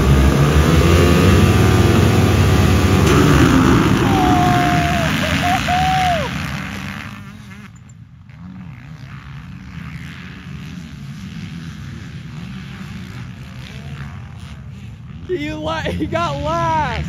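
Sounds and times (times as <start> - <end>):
distant drone of engines: 0.0 - 17.0
motocross bikes accelerating: 0.0 - 17.0.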